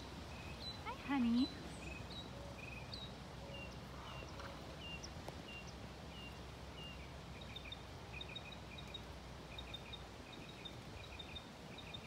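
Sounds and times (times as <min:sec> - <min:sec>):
low outdoor background hum: 0:00.0 - 0:12.0
small birds chirping: 0:00.0 - 0:12.0.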